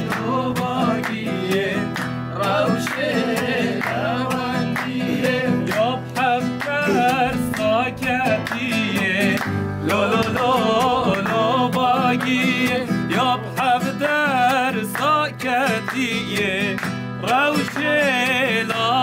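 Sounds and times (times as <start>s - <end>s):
classical guitar strumming: 0.0s - 19.0s
voices singing along: 0.0s - 19.0s.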